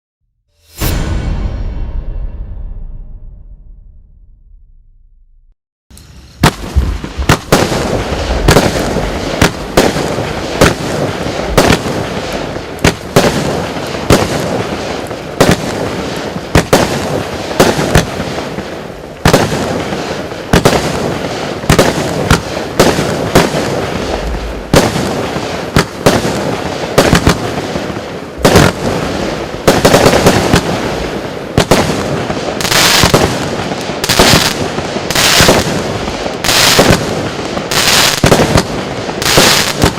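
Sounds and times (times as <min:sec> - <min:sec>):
fireworks heavy crackling: 0:05.9 - 0:39.9
fireworks sharp shots: 0:06.1 - 0:39.9.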